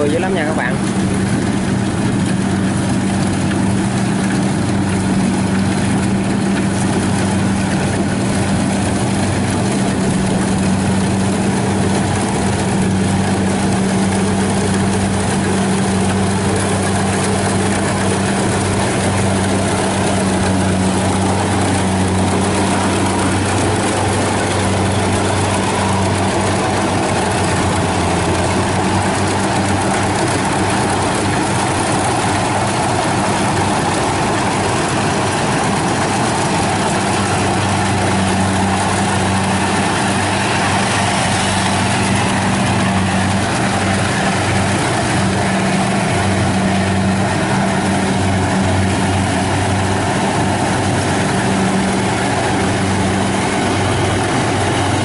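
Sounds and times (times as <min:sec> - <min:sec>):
combine harvester engine running: 0:00.0 - 0:55.0
cutter and threshing drum noise: 0:00.0 - 0:55.0.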